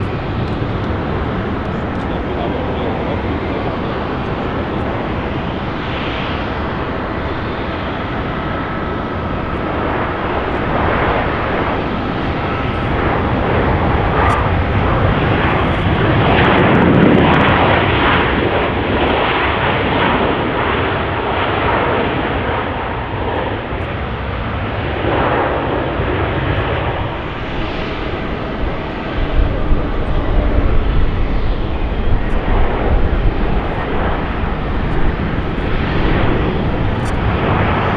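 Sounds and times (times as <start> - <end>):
jet plane passing by: 0.0 - 37.9.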